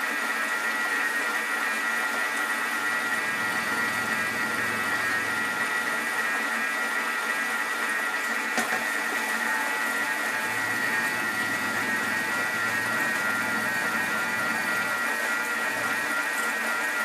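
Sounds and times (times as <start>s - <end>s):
mixer motor whining: 0.0s - 17.0s.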